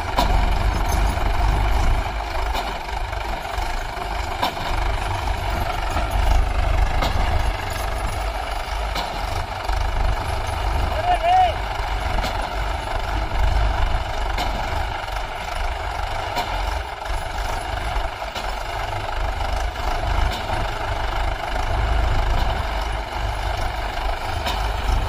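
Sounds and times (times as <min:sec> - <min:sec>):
tractor engines under load: 0:00.0 - 0:25.0.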